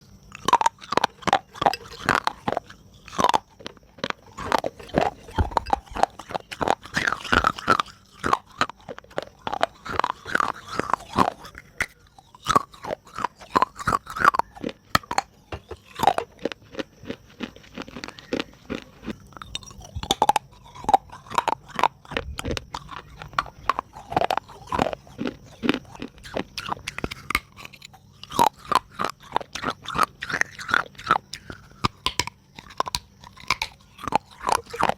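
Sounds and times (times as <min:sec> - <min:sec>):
clay pieces crunching wetly: 0:00.3 - 0:34.9.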